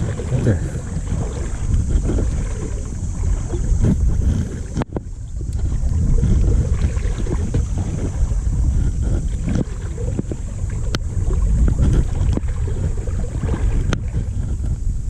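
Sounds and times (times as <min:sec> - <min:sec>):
river water flowing: 0:00.0 - 0:14.3
wind buffeting microphone: 0:00.0 - 0:15.0.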